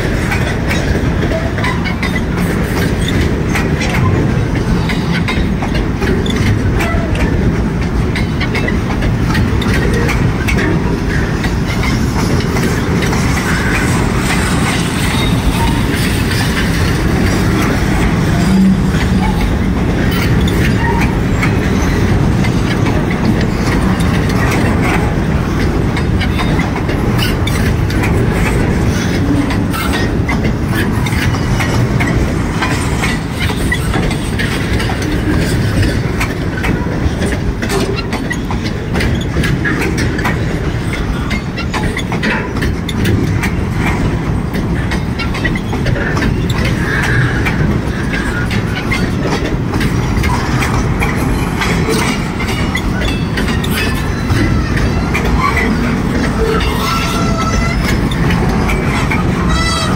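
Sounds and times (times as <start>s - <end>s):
steel wheels on rail: 0.0s - 59.9s
clicks and clanks: 0.2s - 59.9s.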